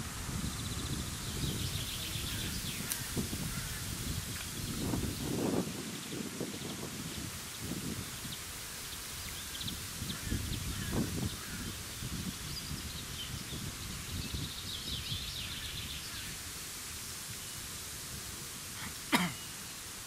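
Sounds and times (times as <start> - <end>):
small birds chirping: 0.0 - 17.8, 18.8 - 20.0
wind rumbling on microphone: 0.0 - 19.1
leaves rustling: 0.0 - 20.0.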